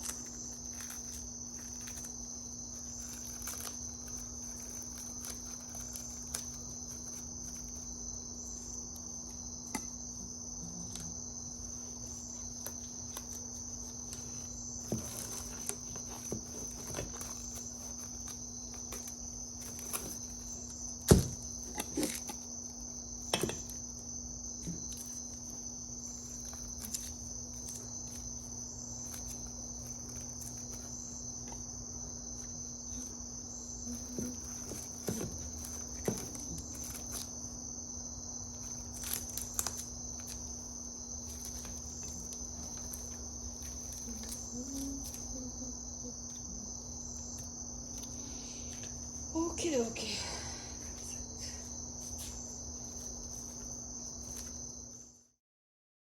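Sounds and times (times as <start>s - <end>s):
crickets trilling: 0.0s - 55.2s.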